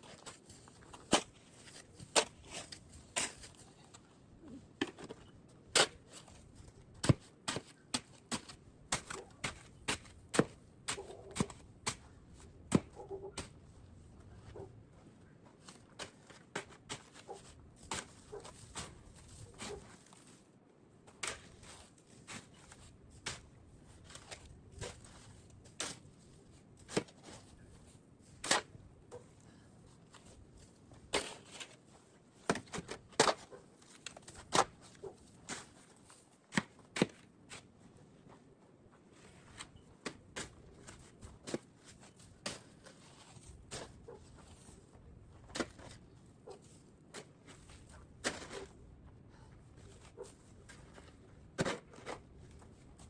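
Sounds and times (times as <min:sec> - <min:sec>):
snow shovel knocking and scraping: 0:00.0 - 0:04.0, 0:04.7 - 0:13.7, 0:15.6 - 0:20.4, 0:21.1 - 0:29.4, 0:30.1 - 0:37.8, 0:39.2 - 0:48.8, 0:49.8 - 0:53.0.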